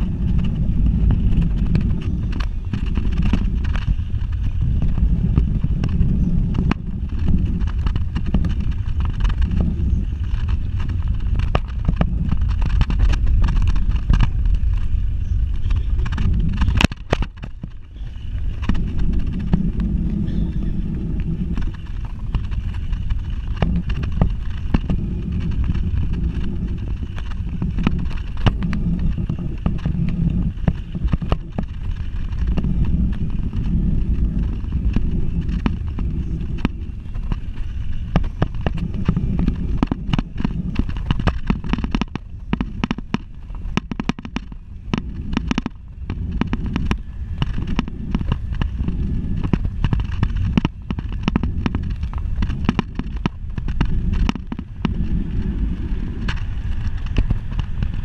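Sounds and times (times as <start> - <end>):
bike clicks and knocks: 0.0 - 58.0
wind buffeting microphone: 0.0 - 58.0.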